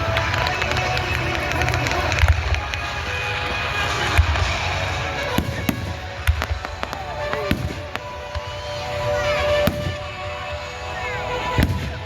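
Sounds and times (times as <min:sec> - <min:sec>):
background music: 0:00.0 - 0:12.0
falling firework whistle: 0:00.0 - 0:12.0
fireworks bangs and crackles: 0:00.0 - 0:12.0.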